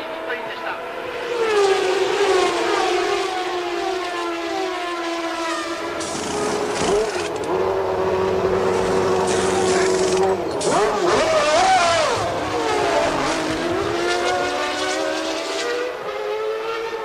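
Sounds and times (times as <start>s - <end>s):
high-revving engine steady note: 0.0s - 17.0s
racing car engine high revs: 0.0s - 17.0s.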